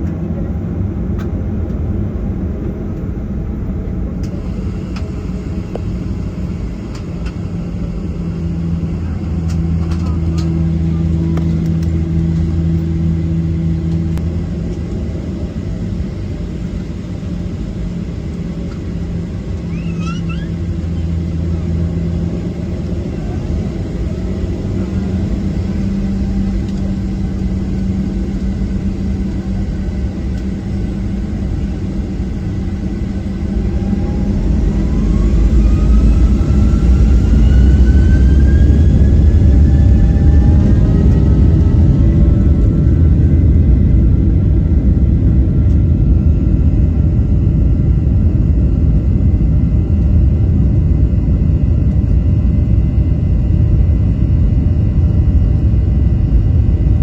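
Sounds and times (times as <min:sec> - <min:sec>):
airplane cabin rumble: 0:00.0 - 0:57.0
jet engines spooling up whine: 0:00.0 - 0:57.0.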